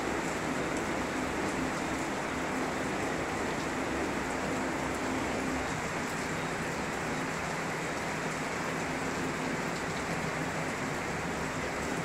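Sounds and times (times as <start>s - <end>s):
heavy rain on trees: 0.0s - 12.0s.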